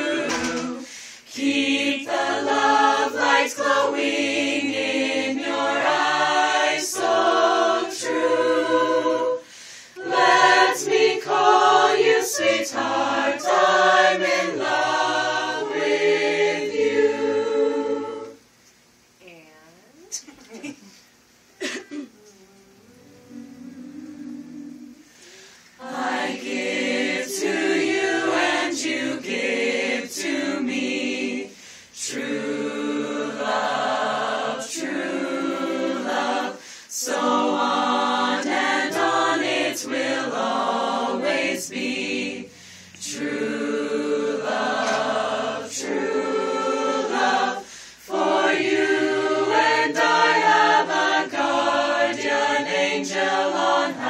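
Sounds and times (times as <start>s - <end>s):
a cappella group singing: 0.0s - 18.6s, 21.6s - 54.0s.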